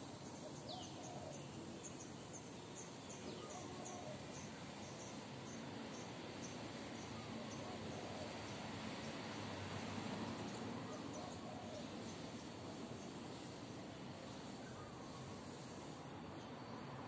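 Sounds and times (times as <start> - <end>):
quiet outdoor background noise: 0.0 - 17.0.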